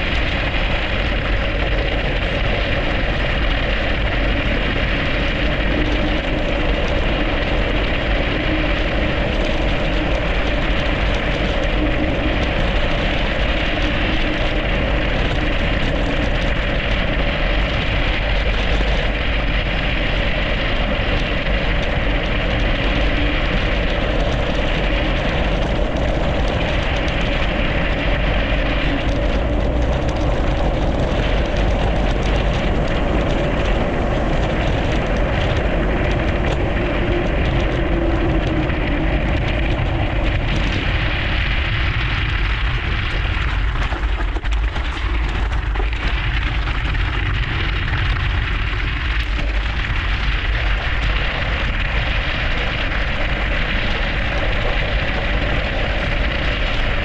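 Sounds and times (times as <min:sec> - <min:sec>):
bike tyres on snow: 0:00.0 - 0:57.0
wind rushing over microphone: 0:00.0 - 0:57.0.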